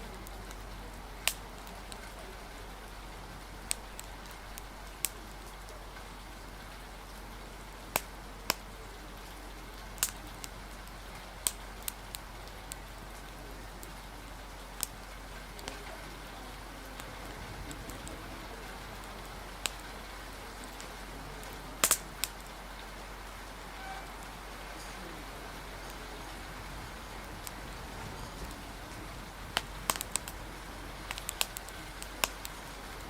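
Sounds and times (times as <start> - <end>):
sharp pops: 0.0 - 2.3, 3.6 - 20.0, 20.6 - 22.6, 27.0 - 33.0
fire crackling: 0.0 - 33.0
rain hissing: 0.0 - 33.0.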